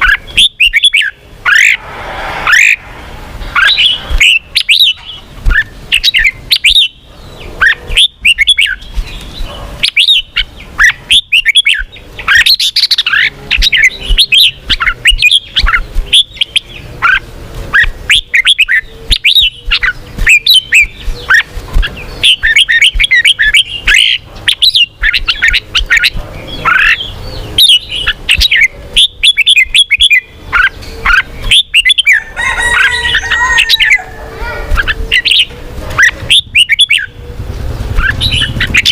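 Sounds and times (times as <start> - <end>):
bird singing chirping phrases: 0.0 - 1.8, 2.4 - 38.9.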